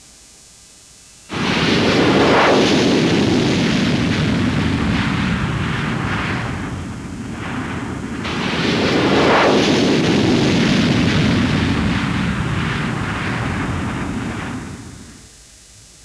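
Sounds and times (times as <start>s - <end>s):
jet engines roaring: 1.3s - 15.4s.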